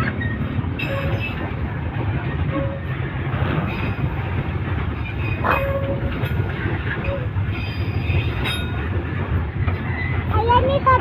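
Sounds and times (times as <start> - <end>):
train wagons rumbling past: 0.0 - 11.0.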